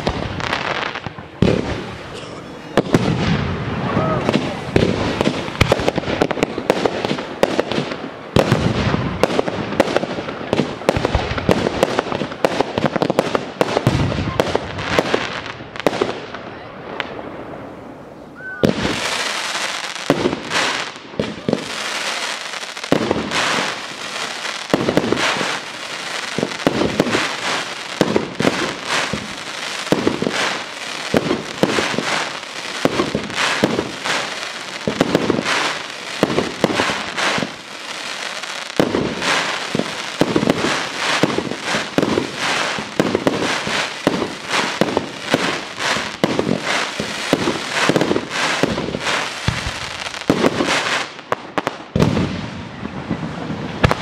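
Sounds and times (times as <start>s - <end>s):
fireworks bangs: 0.0s - 54.0s
fireworks crackling: 0.0s - 54.0s.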